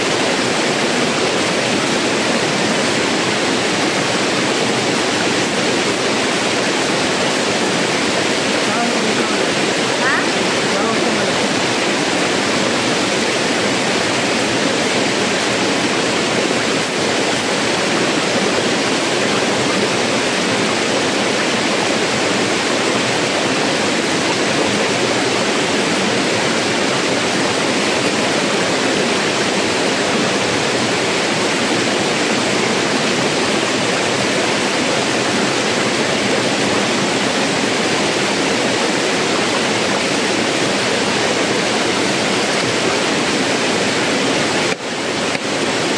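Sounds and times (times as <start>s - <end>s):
river water pouring over rocks: 0.0s - 45.9s.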